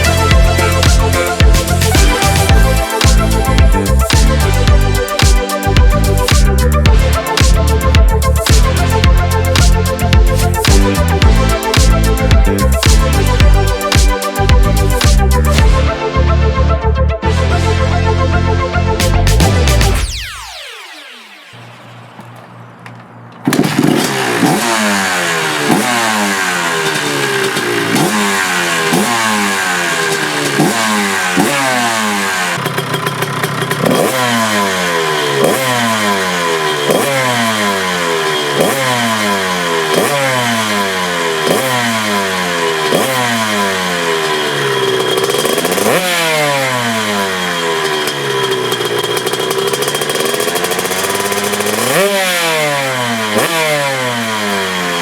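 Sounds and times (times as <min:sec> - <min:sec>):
dirt bike engine revving: 0:00.0 - 0:15.9, 0:23.4 - 0:55.0.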